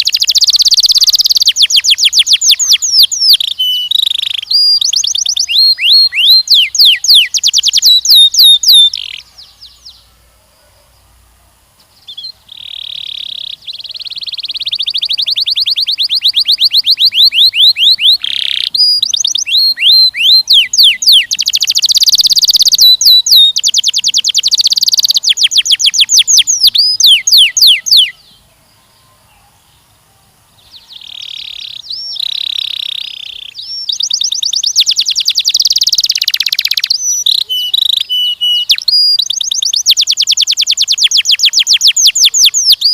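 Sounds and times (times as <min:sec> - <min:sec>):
canary singing trills: 0:00.0 - 0:11.1, 0:11.9 - 0:42.9.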